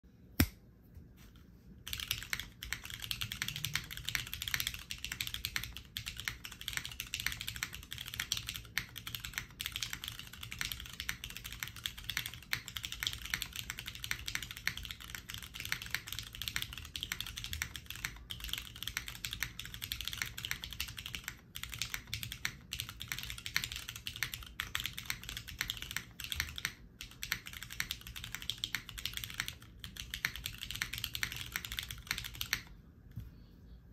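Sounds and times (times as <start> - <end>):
mechanical keyboard typing: 1.8 - 32.7.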